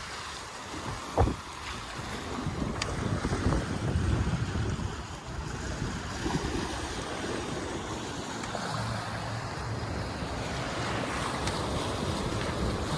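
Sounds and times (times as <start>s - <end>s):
water rushing along a hull: 0.0s - 12.9s
wind blowing over microphone: 0.0s - 12.9s.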